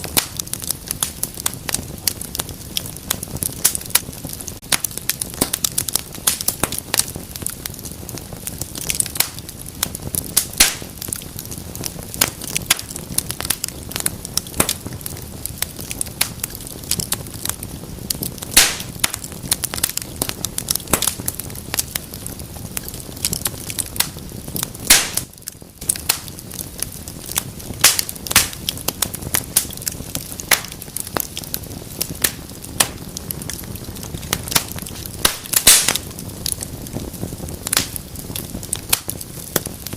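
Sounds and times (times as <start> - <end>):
burning logs popping: 0.0 - 39.9
low rumble of flames: 0.0 - 39.9.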